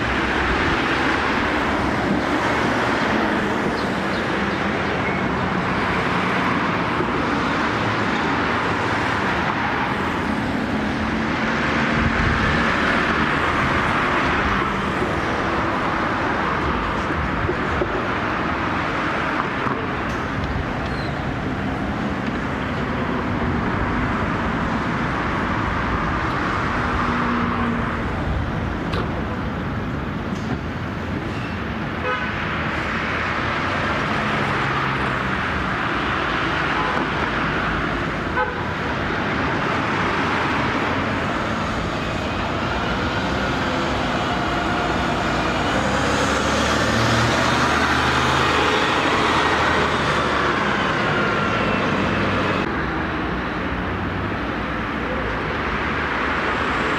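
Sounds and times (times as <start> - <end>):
bus engine passing close: 0.0 - 56.9
cars passing: 0.0 - 56.9.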